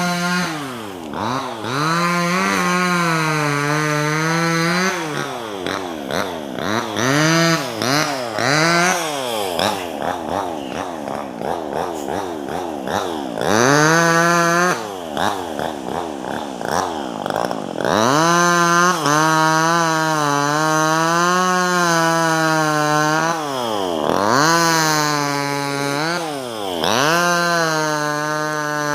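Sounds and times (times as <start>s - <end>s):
chainsaw revving: 0.0s - 28.9s.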